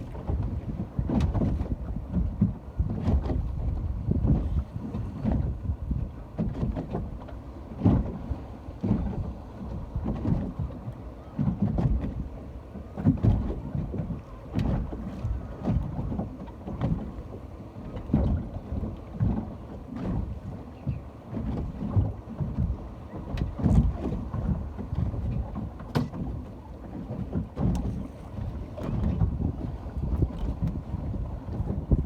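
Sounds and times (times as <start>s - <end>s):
water splashing and lapping: 0.0s - 32.0s
wind buffeting microphone: 0.0s - 32.0s.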